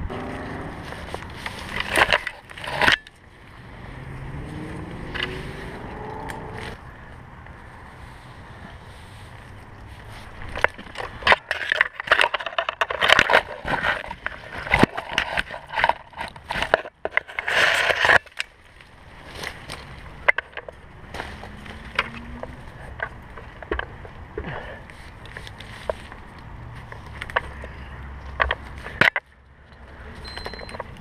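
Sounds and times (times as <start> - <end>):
leaves rustling: 0.0 - 27.8
twigs crackling and scraping: 0.0 - 31.0.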